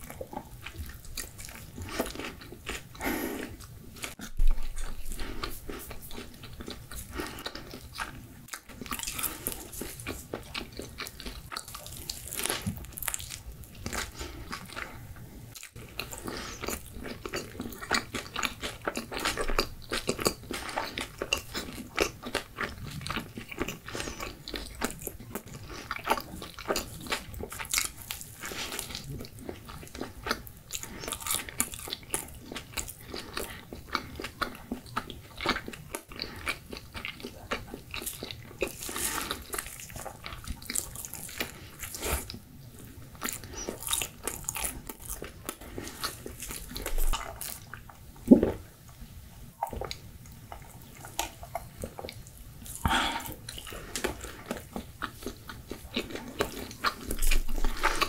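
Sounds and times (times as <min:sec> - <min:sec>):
chewing and biting pizza: 0:00.0 - 0:48.6, 0:49.5 - 0:58.0.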